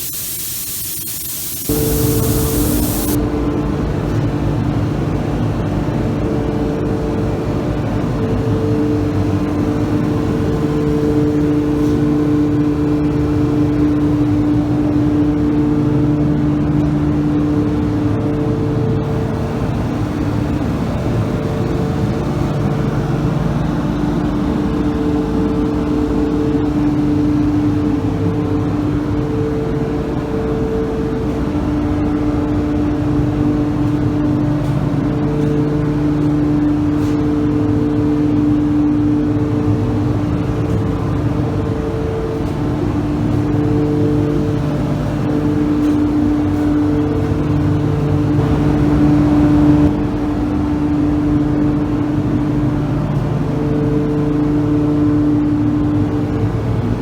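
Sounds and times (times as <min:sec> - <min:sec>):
machine droning hum: 0:00.0 - 0:57.0.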